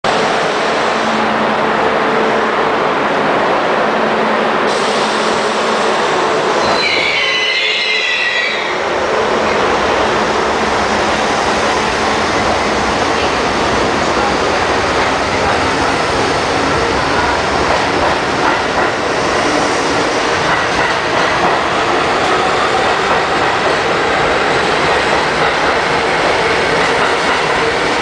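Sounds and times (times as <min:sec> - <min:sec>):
train wheels rumbling on rail: 0:00.1 - 0:28.0.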